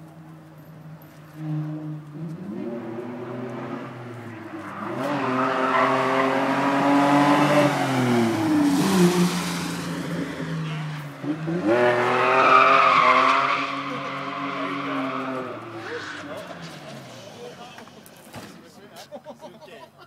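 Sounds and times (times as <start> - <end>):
tires skidding: 1.2 - 18.6.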